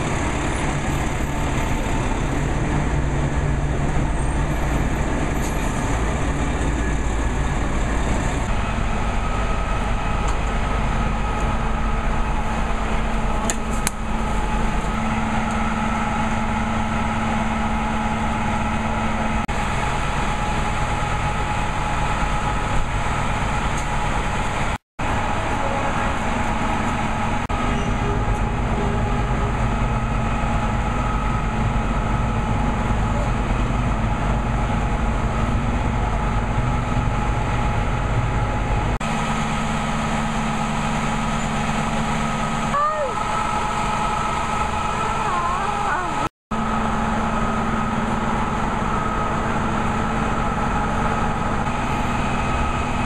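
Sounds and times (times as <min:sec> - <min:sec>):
coach engine idling: 0:00.0 - 0:53.0.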